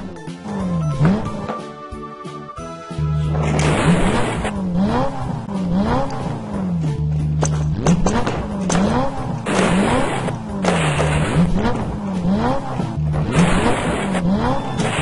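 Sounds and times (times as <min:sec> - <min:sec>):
engine revving: 0:00.0 - 0:01.6, 0:03.0 - 0:15.0
rushing tyre-spin noise: 0:00.0 - 0:01.7, 0:03.0 - 0:15.0.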